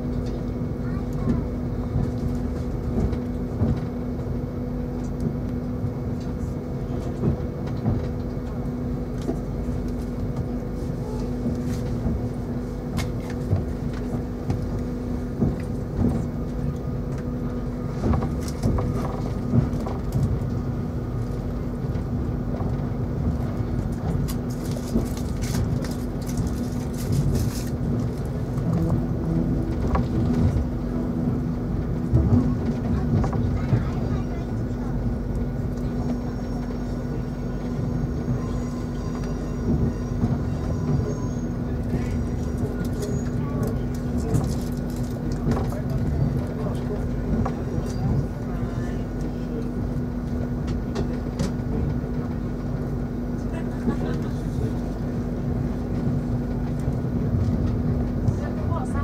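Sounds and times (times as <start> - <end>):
train low hum: 0.0 - 59.0
wheels rumbling on track: 0.0 - 59.0.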